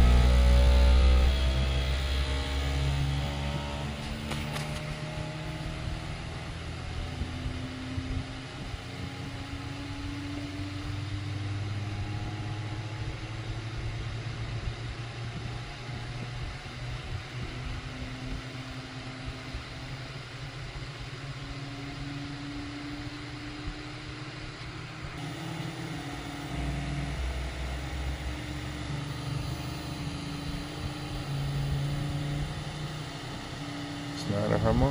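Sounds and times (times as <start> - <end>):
printer low hum: 0.0 - 34.9
stepper motors whining: 0.0 - 34.9.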